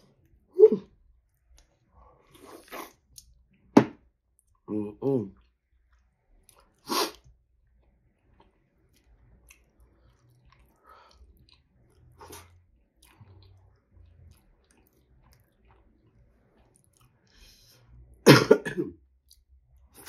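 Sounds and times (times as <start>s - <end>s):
faint chewing: 0.0s - 18.2s, 19.1s - 20.0s.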